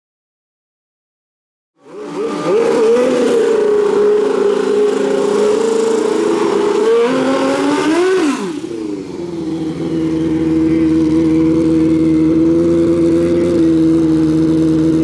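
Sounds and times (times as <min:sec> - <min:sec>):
motorcycle engine at high revs: 0:01.8 - 0:15.0
rear tyre spinning: 0:01.8 - 0:15.0.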